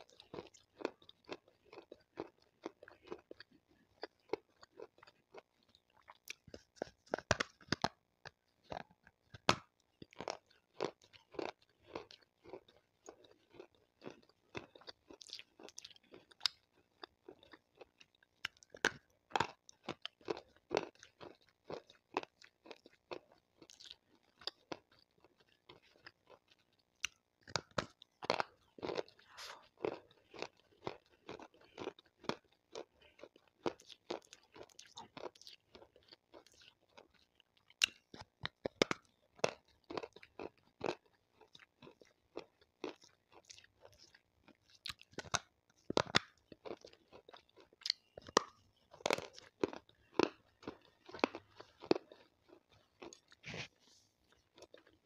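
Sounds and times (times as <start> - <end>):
stone being chewed crunching: 0.0 - 55.0.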